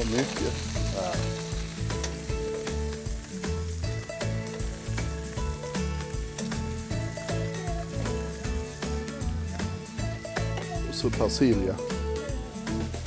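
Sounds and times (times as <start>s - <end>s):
background music with steady beat: 0.0s - 13.0s
food sizzling on griddle: 0.0s - 13.0s.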